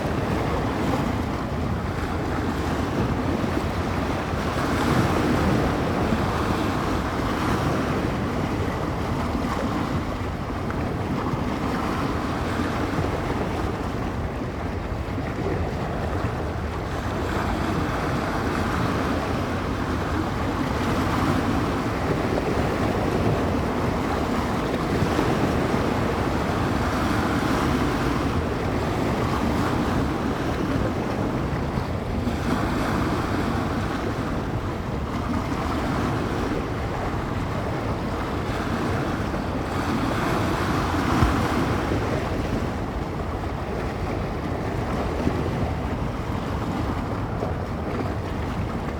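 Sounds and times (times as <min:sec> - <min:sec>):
waves crashing on shore: 0:00.0 - 0:48.9
wind blowing over microphone: 0:00.0 - 0:48.9.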